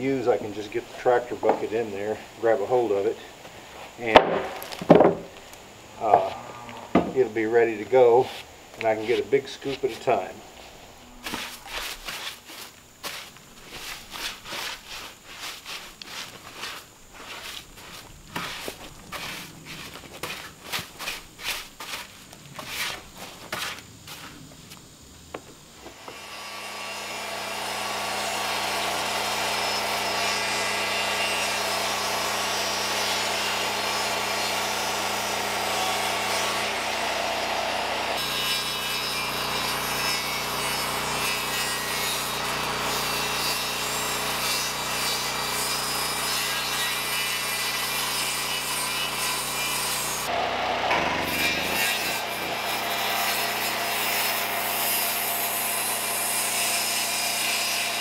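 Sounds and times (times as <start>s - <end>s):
circular saw cutting wood: 6.0s - 24.3s, 25.8s - 58.0s.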